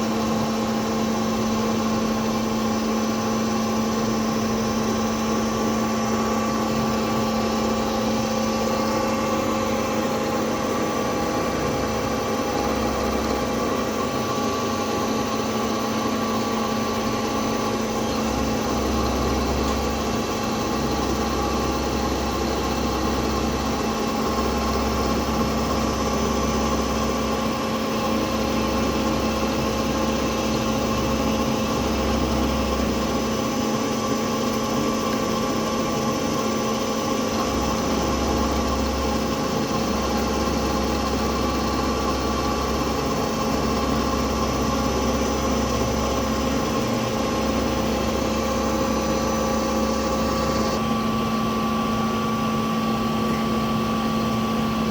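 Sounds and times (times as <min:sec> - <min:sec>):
milling machine hum: 0:00.0 - 0:54.9.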